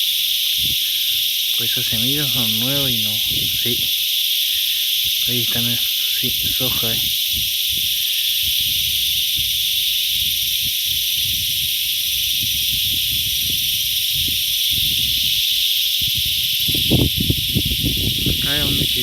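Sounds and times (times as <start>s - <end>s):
cicadas chorus: 0.0s - 19.0s.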